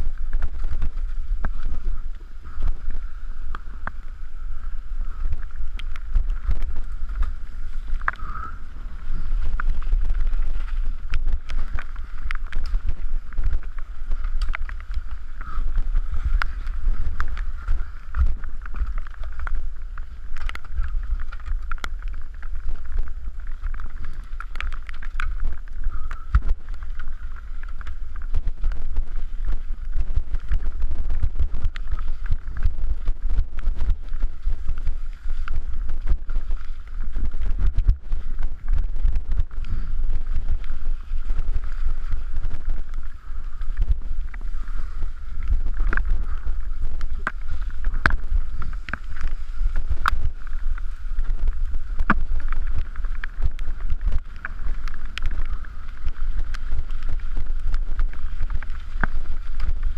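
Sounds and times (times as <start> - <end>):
bike rattling over rocks: 0.0 - 59.9
wind buffeting microphone: 0.0 - 59.9.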